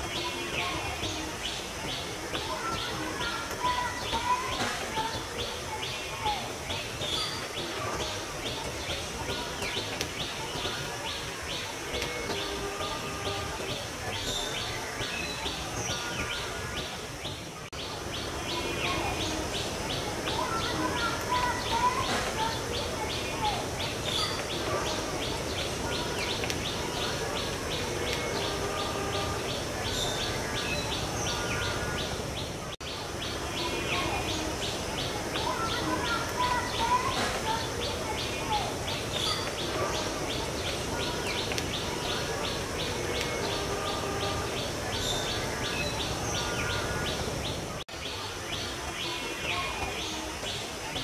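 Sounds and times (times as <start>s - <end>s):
birds chirping and calling: 0.0s - 51.0s.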